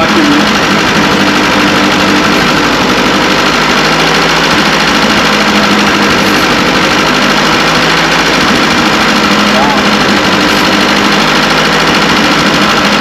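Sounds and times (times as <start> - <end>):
petrol engine running steadily: 0.0 - 13.0.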